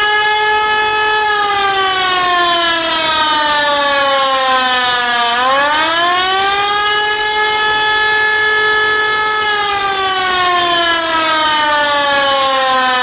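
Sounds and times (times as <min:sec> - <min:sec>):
wailing air-raid siren: 0:00.0 - 0:13.0.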